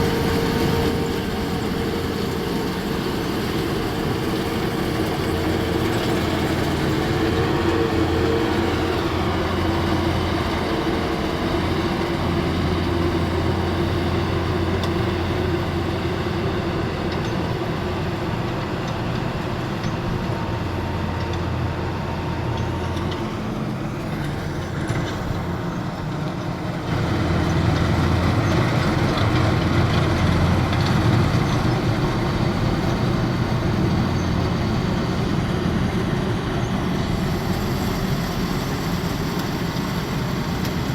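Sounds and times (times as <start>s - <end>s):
heavy machine engine droning: 0.0s - 40.9s.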